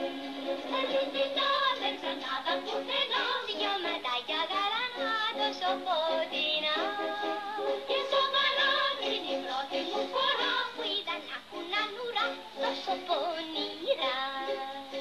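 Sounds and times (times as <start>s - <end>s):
instrumental accompaniment: 0.0s - 15.0s
woman singing: 0.7s - 15.0s.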